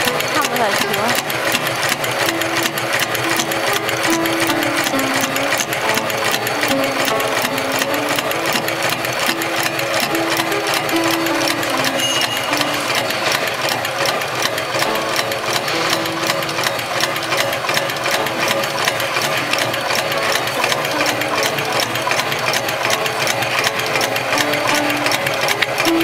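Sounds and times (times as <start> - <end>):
sewing machine needle rhythm: 0.0 - 26.0
short machine hums: 0.0 - 26.0.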